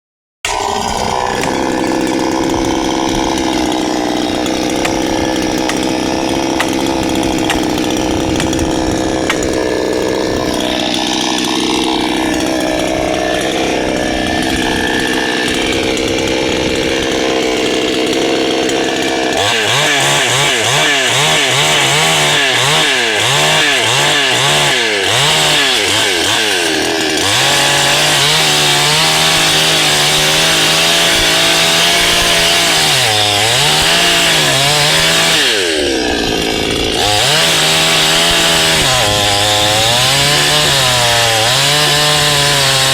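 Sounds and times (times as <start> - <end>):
chainsaw cutting wood: 0.4 - 42.9.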